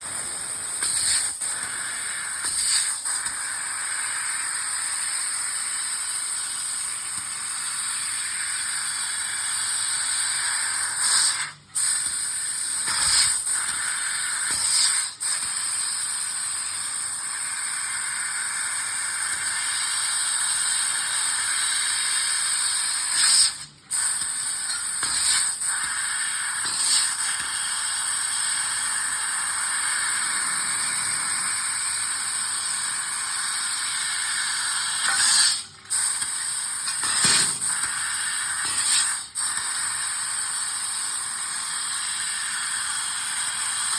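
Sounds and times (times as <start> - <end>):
laser cutter air jet hissing: 0.0 - 43.9.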